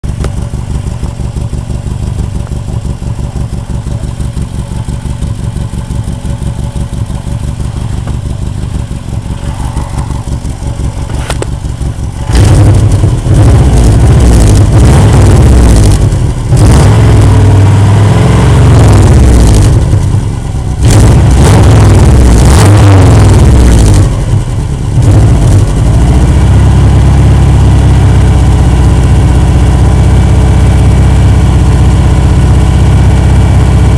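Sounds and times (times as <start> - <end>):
car engine with leaking exhaust: 0.0 - 33.9.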